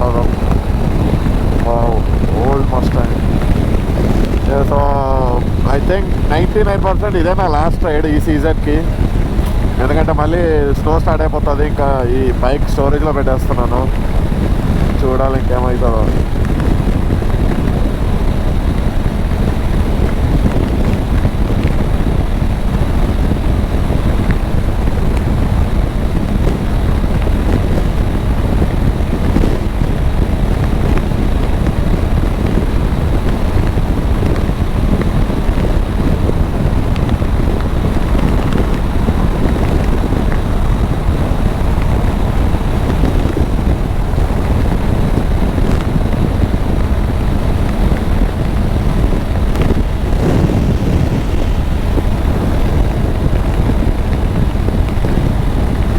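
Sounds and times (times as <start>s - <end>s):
motorcycle engine hum: 0.0s - 55.9s
road noise: 0.0s - 55.9s
wind rush over microphone: 0.0s - 55.9s.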